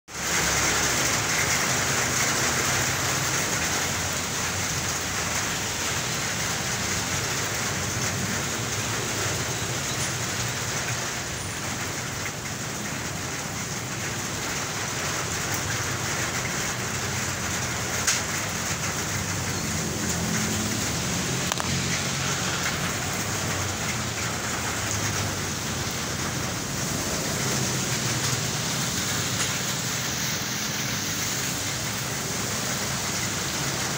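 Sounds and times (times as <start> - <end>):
heavy rain pouring: 0.1 - 33.9
road traffic rumbling: 0.1 - 33.9.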